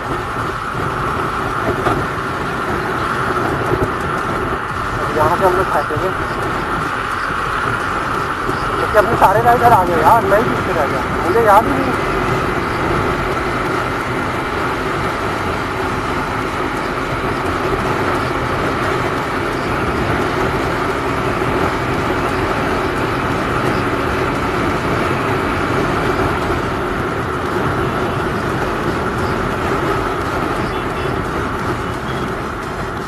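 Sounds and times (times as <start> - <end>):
motorcycle engine cruising: 0.0 - 33.0
wind and road noise: 0.0 - 33.0.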